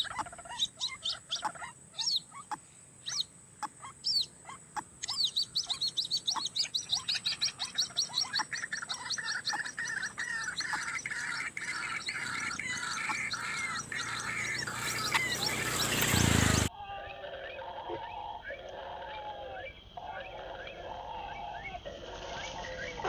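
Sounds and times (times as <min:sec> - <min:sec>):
chorus of bird calls: 0:00.0 - 0:23.0
high sweeping bird notes: 0:00.0 - 0:23.0.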